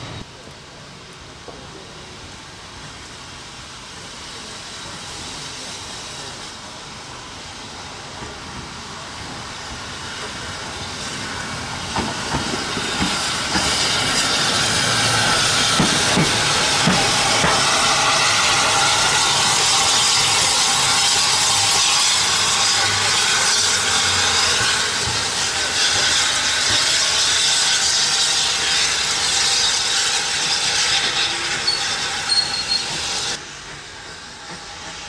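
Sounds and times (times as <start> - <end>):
steam engine hissing: 0.0 - 35.0.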